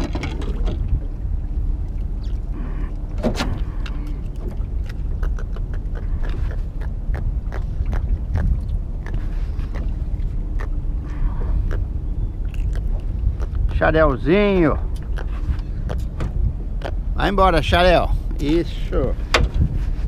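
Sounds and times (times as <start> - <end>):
faint steady hum: 0.0 - 20.0
wind buffeting microphone: 0.0 - 20.0.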